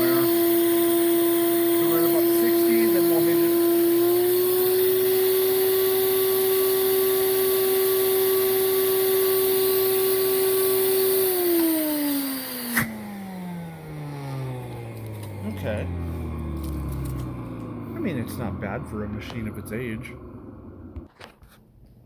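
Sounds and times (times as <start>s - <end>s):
vacuum cleaner motor whining: 0.0s - 21.1s.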